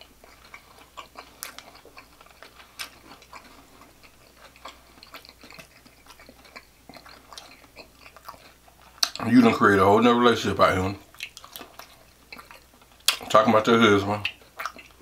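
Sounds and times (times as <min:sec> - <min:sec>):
chewing with wet mouth smacks: 0:00.0 - 0:09.8, 0:10.6 - 0:15.0
faint low hum: 0:00.0 - 0:15.0.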